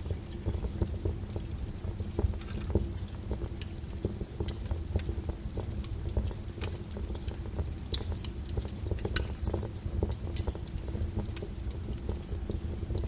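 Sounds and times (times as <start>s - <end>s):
flames rumbling low: 0.0s - 13.0s
wood fire crackling: 0.0s - 13.0s.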